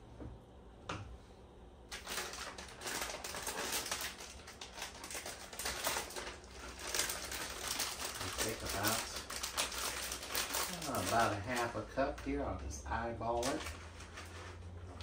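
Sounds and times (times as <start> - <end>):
plastic bag crinkling: 1.9 - 15.0.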